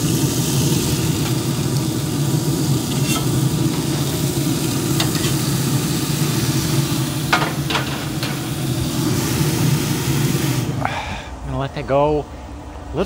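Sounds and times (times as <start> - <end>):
burger patties sizzling in a pan: 0.0 - 10.7
steady low hum: 0.0 - 13.0.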